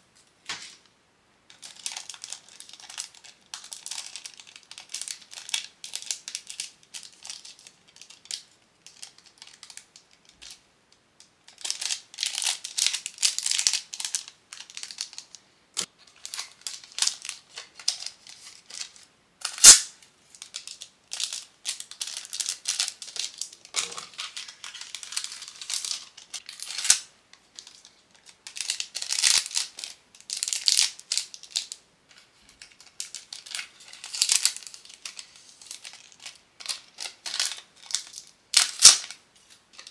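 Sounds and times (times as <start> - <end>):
cellophane sleeves crinkling: 1.5 - 10.6, 11.5 - 39.9.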